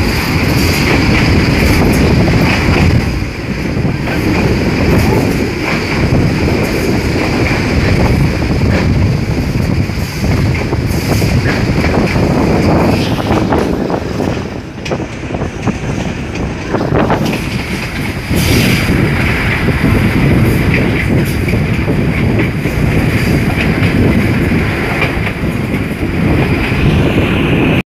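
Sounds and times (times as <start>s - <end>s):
train wheels clattering on rails: 0.0s - 27.8s.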